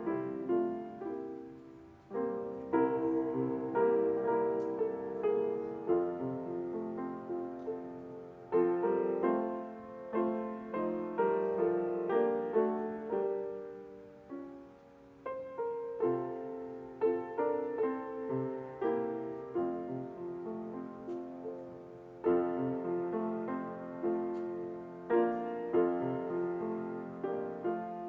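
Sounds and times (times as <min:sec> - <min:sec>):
piano playing slow chords: 0:00.0 - 0:28.0.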